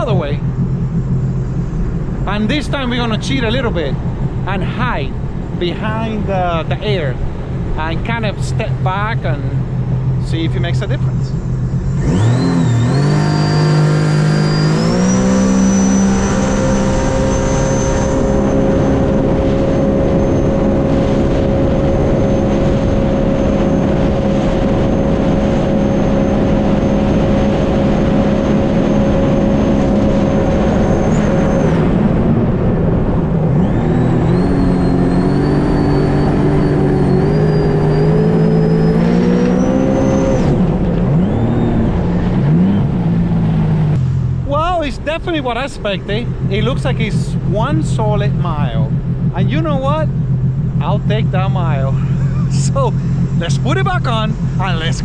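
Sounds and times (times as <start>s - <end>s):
high supercharger whine: 0.0s - 55.0s
jet ski engine at full throttle: 0.0s - 55.0s.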